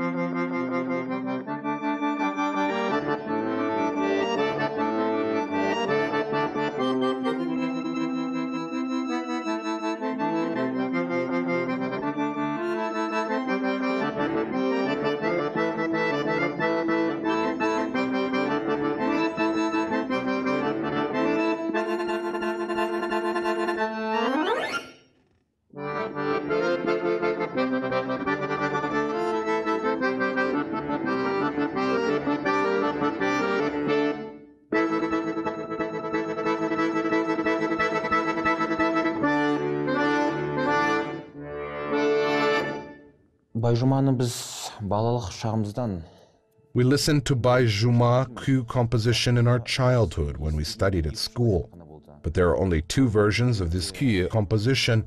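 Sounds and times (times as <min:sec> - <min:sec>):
accordion folk melody: 0:00.0 - 0:44.0, 0:46.7 - 0:55.0.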